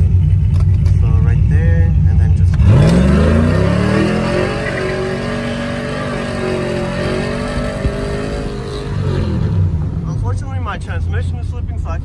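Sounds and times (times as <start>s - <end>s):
truck engine exhaust under throttle: 0.0s - 12.0s.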